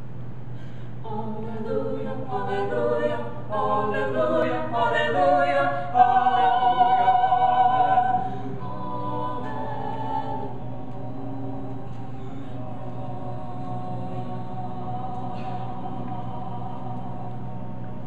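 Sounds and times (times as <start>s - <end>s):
a cappella vocal quartet: 0.9s - 18.0s.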